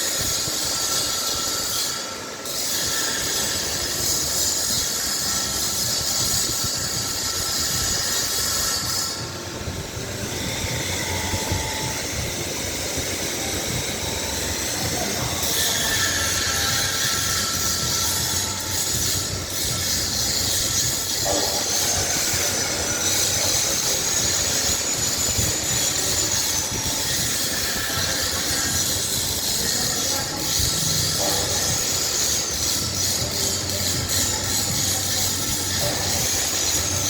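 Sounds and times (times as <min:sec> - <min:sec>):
high wavering whine: 0:00.0 - 0:37.0.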